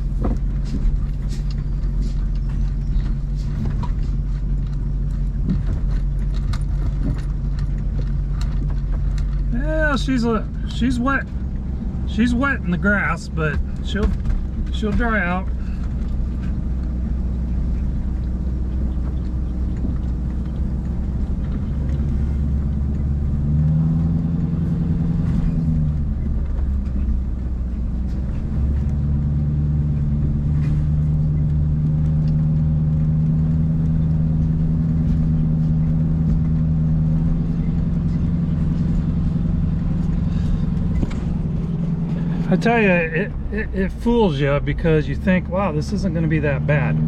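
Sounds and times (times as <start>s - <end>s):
pickup truck engine running: 0.0s - 47.0s.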